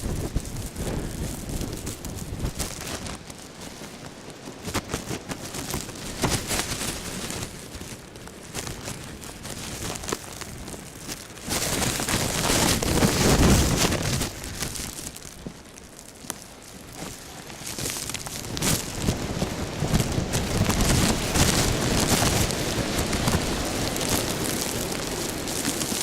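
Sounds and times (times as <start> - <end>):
snow ticking on microphone: 0.0 - 26.0
wind gusting on microphone: 0.0 - 26.0.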